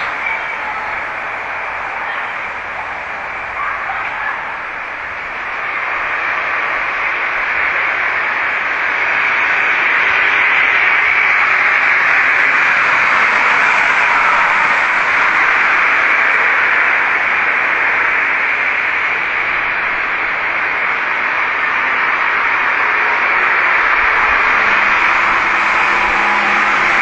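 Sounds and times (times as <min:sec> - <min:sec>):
static-like hiss: 0:00.0 - 0:27.0.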